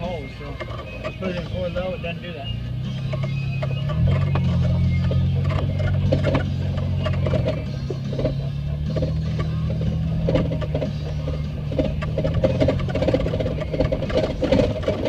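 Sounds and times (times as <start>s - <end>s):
vehicle engine running at low revs: 0.0s - 15.0s
knocks and rattles: 2.7s - 15.0s.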